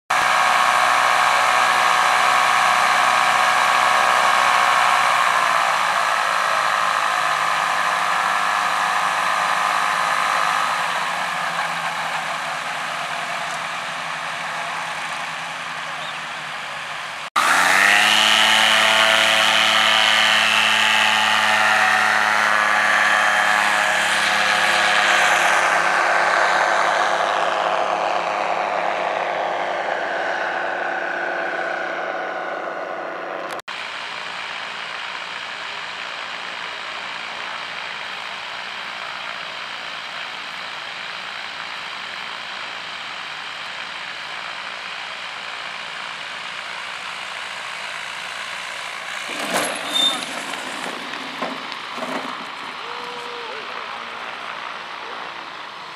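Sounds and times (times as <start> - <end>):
microlight engine at high power: 0.1 - 55.9
microlight engines and propellers running: 0.1 - 55.9.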